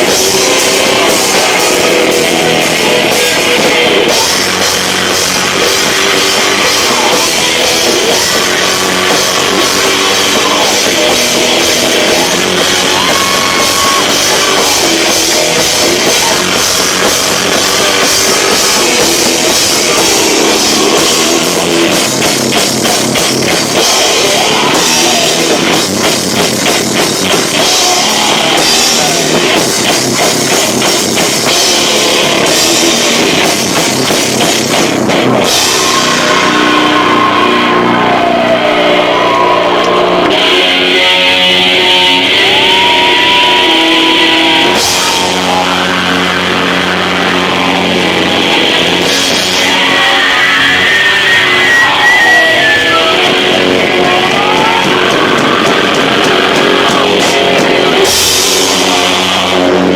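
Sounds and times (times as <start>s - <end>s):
distorted live rock band: 0.0s - 59.9s.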